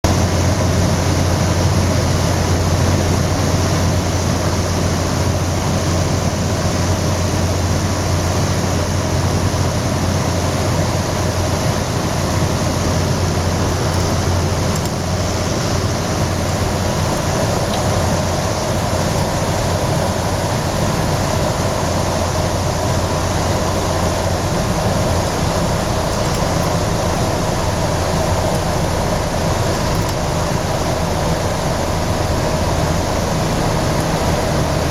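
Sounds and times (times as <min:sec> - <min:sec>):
propeller airplane engines droning: 0:00.0 - 0:34.9.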